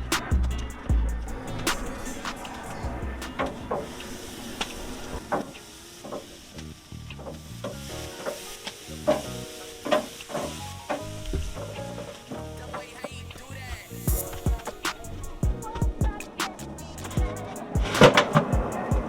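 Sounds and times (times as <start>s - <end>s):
chicken sizzling on grill: 1.3s - 18.8s.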